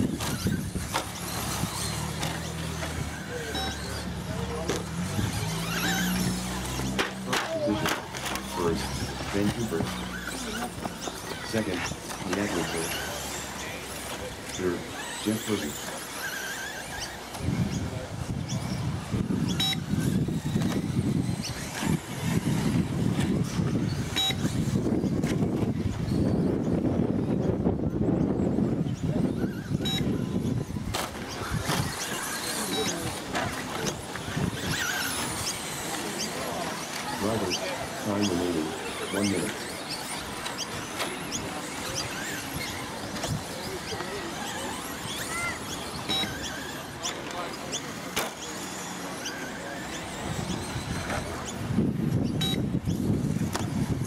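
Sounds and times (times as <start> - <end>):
radio-controlled trucks rumbling: 0.0 - 54.0.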